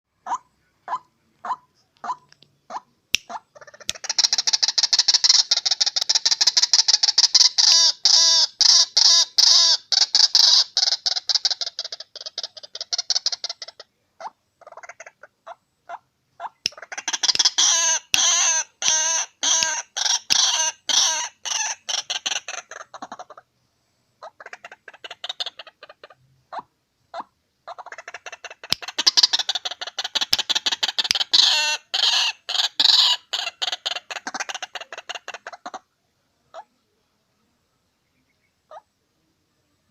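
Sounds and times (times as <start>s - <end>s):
bird chattering: 0.2s - 23.4s, 24.2s - 35.9s.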